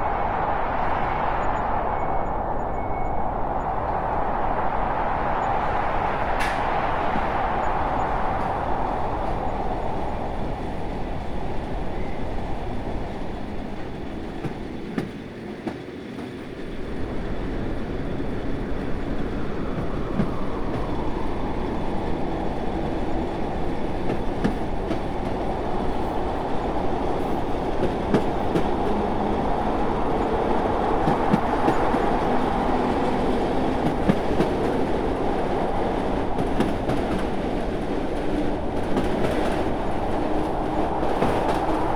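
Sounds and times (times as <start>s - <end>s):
train rumbling on rails: 0.0s - 41.9s.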